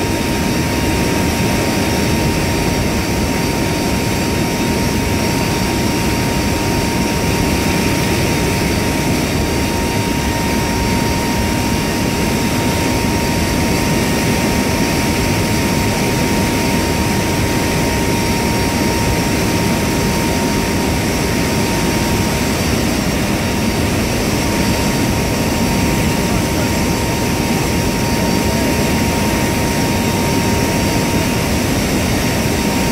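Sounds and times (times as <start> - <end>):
aircraft engine drone: 0.0 - 32.9
constant tone: 0.0 - 32.9.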